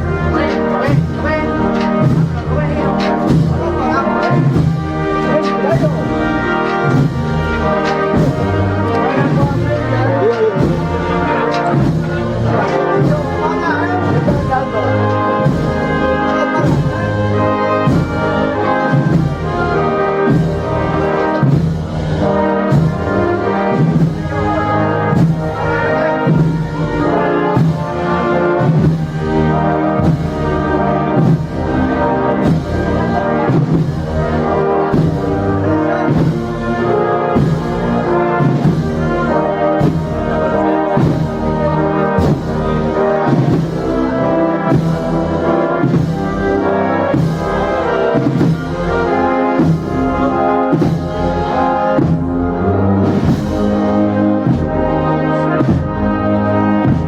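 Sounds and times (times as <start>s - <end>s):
brass band playing slow march: 0.0s - 57.0s.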